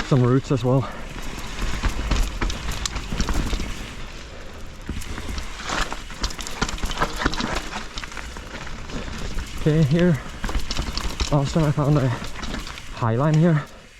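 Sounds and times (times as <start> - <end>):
bike knocking and rattling: 0.0 - 13.9
bike tyres hissing on mud: 0.0 - 13.9.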